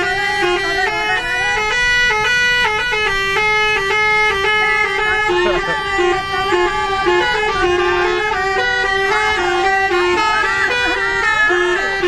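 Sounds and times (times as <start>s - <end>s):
bus horn playing a melody: 0.0s - 12.0s.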